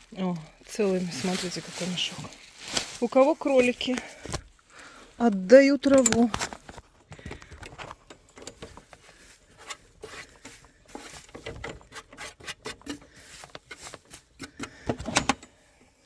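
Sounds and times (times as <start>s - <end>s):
rustling and scraping: 0.0s - 16.0s.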